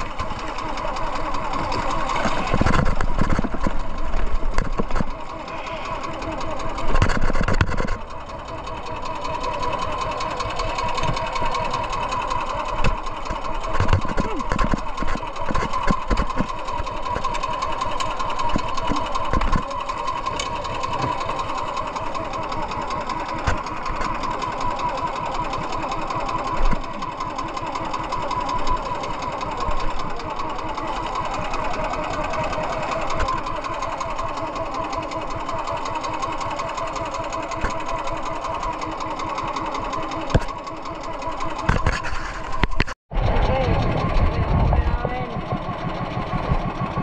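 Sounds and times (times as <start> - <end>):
boat engine running: 0.0 - 47.0.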